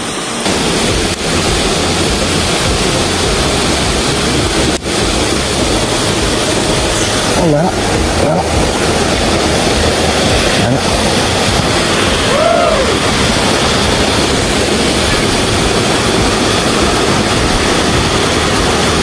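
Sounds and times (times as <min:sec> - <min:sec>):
fast stream rushing: 0:00.0 - 0:19.0.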